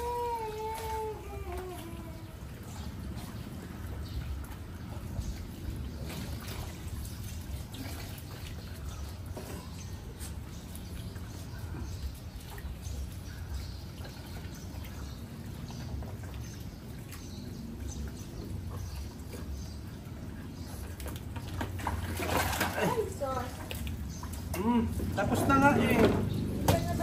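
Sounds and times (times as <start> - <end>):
hose water trickling: 0.0 - 27.0
water splashing and dripping: 0.0 - 27.0.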